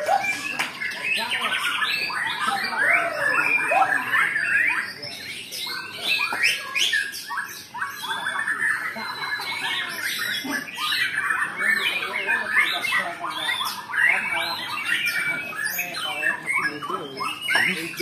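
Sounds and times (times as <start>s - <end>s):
birds singing whistled phrases: 0.0s - 18.0s.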